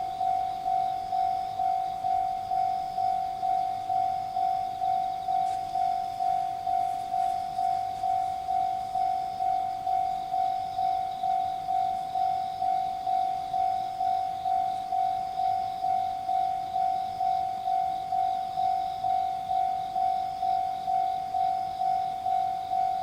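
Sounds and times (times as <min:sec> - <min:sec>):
level crossing warning bell: 0:00.0 - 0:23.0.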